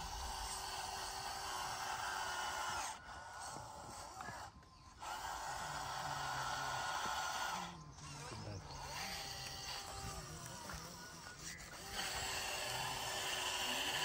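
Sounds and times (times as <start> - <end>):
toy motor and gears whirring: 0.0 - 14.0.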